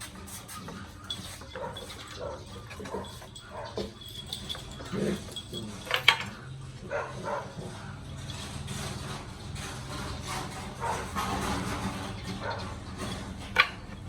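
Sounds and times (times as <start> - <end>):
puppies growling and grunting: 0.0 - 13.5.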